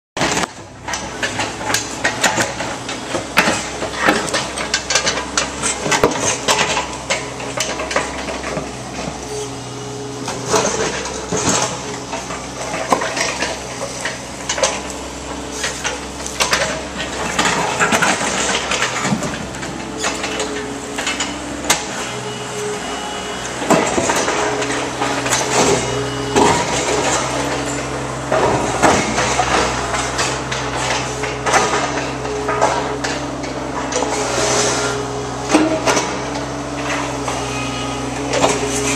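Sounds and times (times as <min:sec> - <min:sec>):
steady machine hum: 0:00.2 - 0:38.9.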